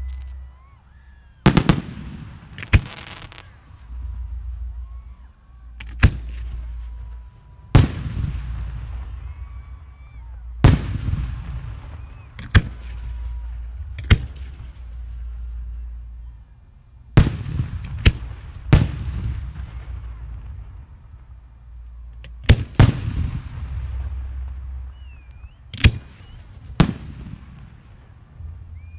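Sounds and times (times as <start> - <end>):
low rumble: 0.0 - 28.9
fireworks booming: 1.4 - 16.2, 17.1 - 28.9.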